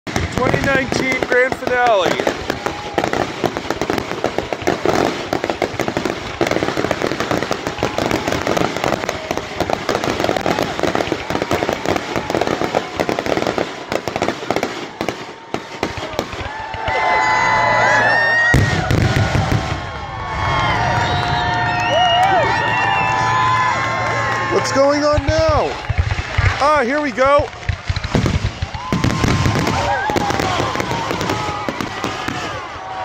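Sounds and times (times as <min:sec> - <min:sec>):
fireworks bangs and crackles: 0:00.0 - 0:33.0
crowd cheering and whooping: 0:00.4 - 0:33.0.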